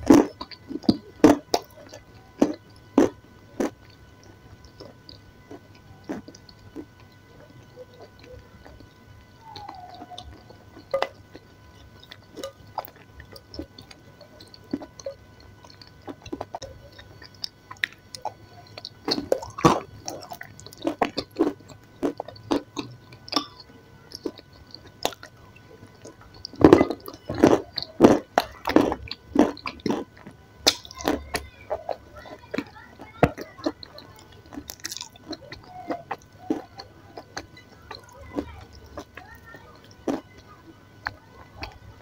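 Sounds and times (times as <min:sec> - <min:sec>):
chewing and crunching food: 0:00.0 - 0:42.0.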